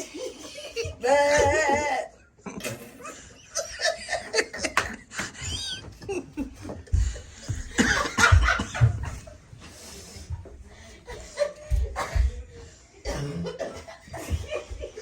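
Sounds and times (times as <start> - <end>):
people giggling: 0.0 - 15.0.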